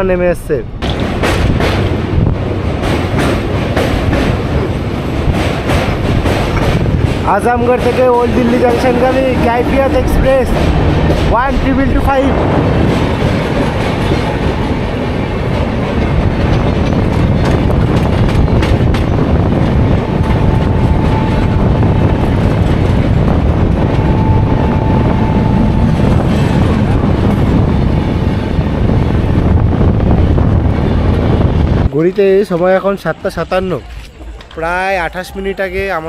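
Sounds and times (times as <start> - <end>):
train rumble with wheel clatter: 0.0 - 36.0.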